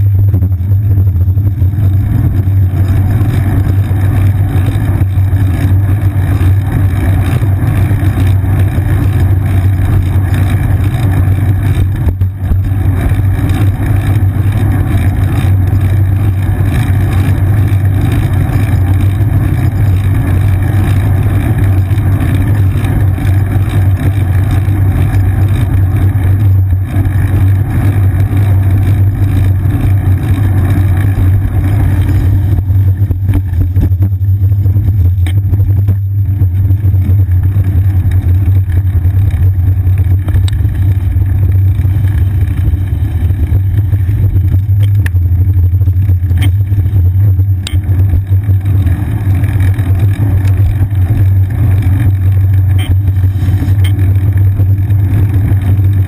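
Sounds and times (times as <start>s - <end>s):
wind on camera: 0.0s - 26.8s, 27.4s - 56.0s
bicycle road vibration rumble: 0.0s - 56.0s.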